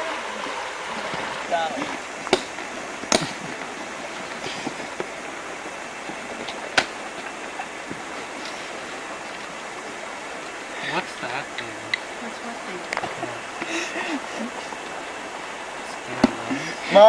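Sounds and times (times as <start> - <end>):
river water rushing: 0.0 - 17.0
sharp knocks on canoe: 0.4 - 17.0.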